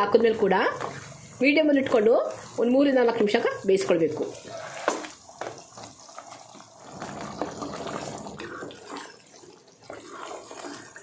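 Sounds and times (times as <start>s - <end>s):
spatula stirring thick gravy: 0.1s - 11.0s.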